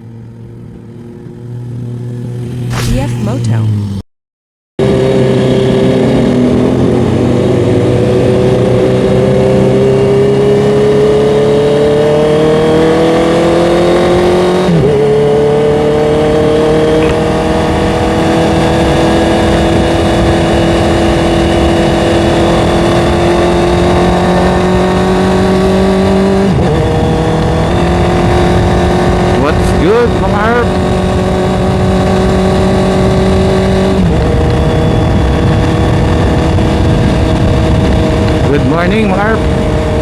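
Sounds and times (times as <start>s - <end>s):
motorcycle engine accelerating: 0.0s - 4.0s, 4.8s - 40.0s.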